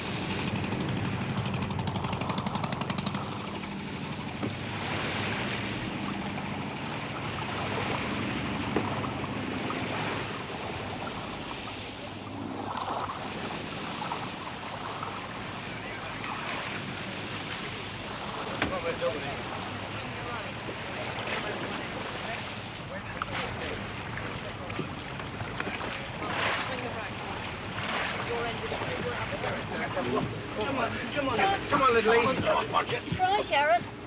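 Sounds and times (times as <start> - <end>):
sea: 0.0 - 34.0.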